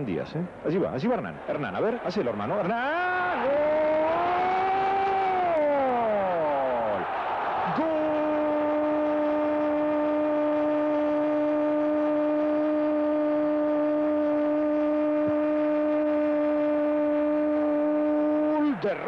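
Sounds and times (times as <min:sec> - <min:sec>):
commentator's drawn-out goal shout: 0:01.4 - 0:19.0.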